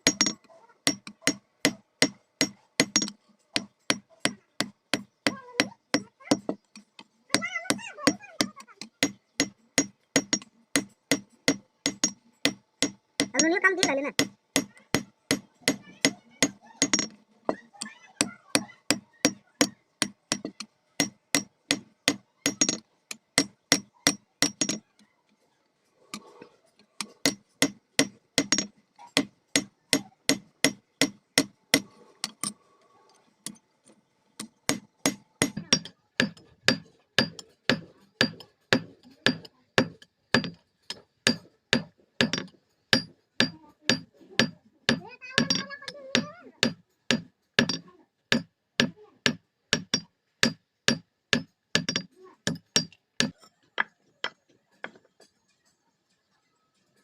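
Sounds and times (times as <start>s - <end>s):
hammer striking iron on anvil: 0.0s - 17.2s, 18.2s - 24.8s, 26.2s - 32.6s, 34.4s - 55.0s.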